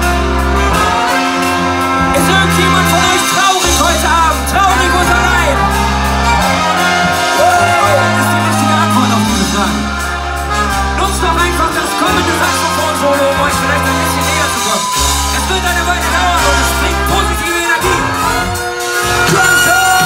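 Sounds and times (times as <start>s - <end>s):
brass band playing: 0.0s - 20.0s
drums keeping the beat: 0.0s - 20.0s.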